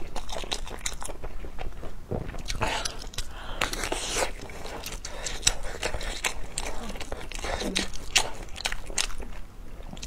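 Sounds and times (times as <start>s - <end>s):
chewing with wet mouth clicks: 0.0s - 10.0s.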